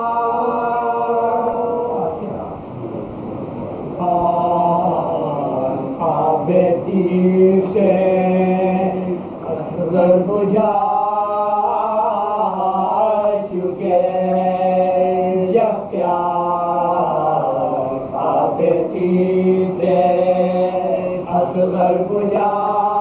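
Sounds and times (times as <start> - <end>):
men chanting together: 4.0 - 23.0.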